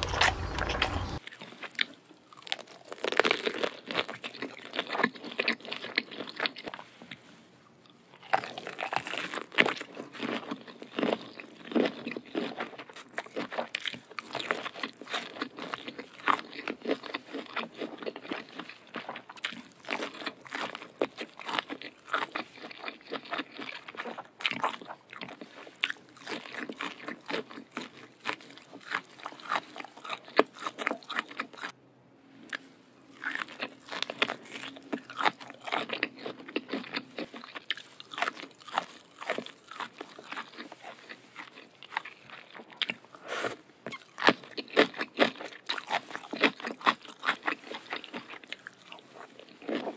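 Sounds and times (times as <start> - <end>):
person chewing crunchy prawns: 0.0 - 31.8, 32.4 - 49.9.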